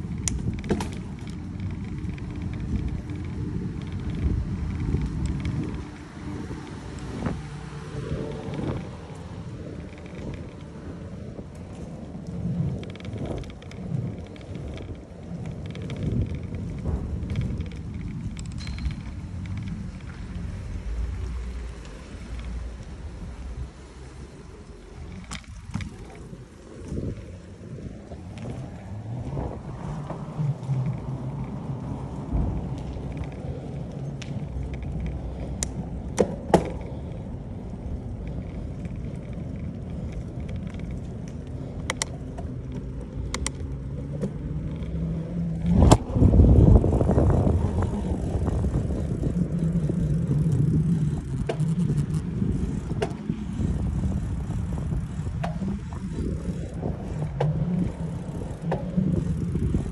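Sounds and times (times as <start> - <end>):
bicycle clicks and knocks: 0.0 - 23.7, 24.3 - 59.9
tyres rumbling on asphalt: 0.0 - 59.9
wind on microphone: 0.0 - 59.9.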